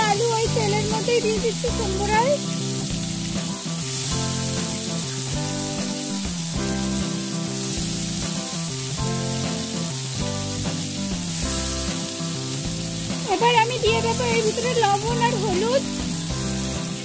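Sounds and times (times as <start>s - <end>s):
background music: 0.0s - 17.0s
vegetables sizzling in oil: 0.0s - 17.0s.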